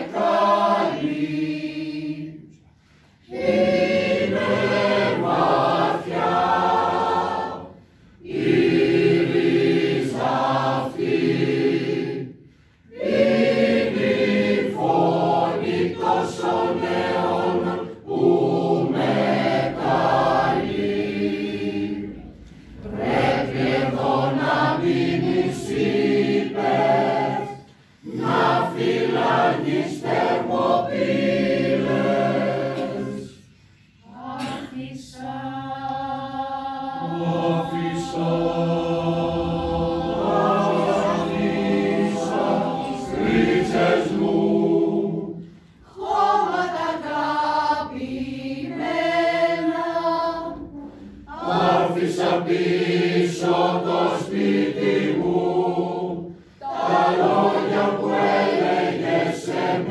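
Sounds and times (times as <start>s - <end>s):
mixed choir singing unaccompanied: 0.0s - 59.9s.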